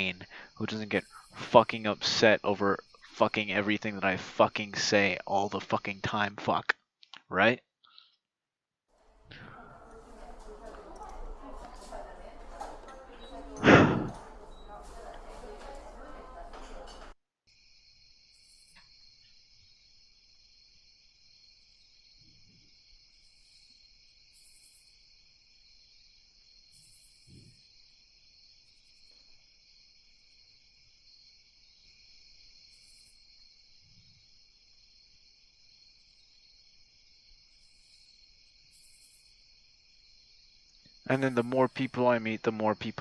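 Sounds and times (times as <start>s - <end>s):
crickets chirring: 0.0s - 6.4s, 9.2s - 43.0s.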